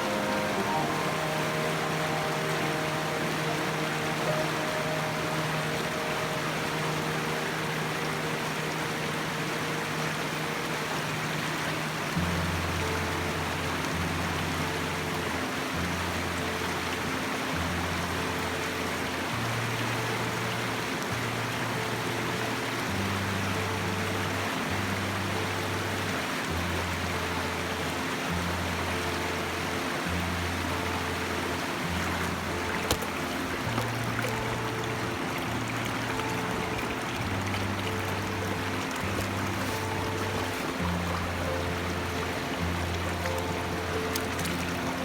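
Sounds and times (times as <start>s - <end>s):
music with slow low notes: 0.0s - 45.0s
stream rushing: 0.0s - 45.0s.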